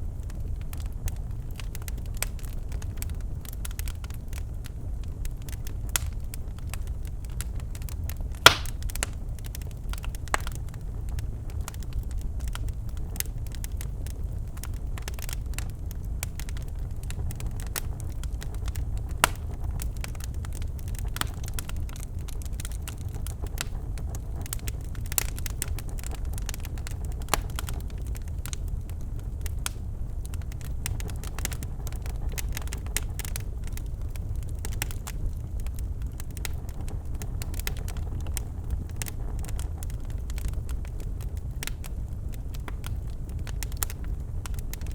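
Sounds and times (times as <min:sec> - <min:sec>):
fire crackling and popping: 0:00.0 - 0:44.9
low rumble of flames: 0:00.0 - 0:44.9.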